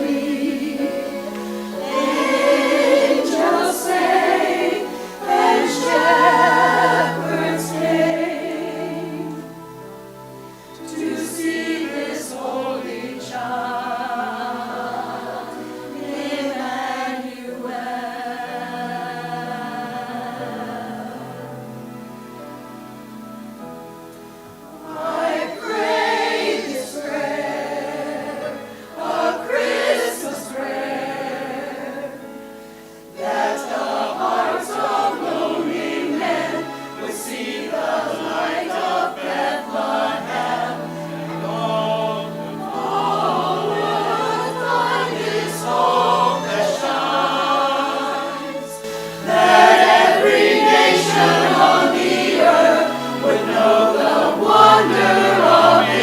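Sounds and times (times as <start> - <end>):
choir singing in parts: 0.0 - 56.0
instrumental accompaniment: 0.0 - 56.0.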